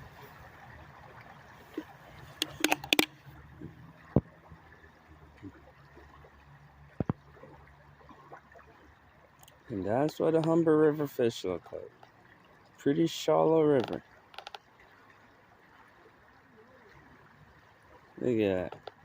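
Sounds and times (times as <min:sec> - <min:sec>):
river water gurgling over stones: 0:00.0 - 0:19.0.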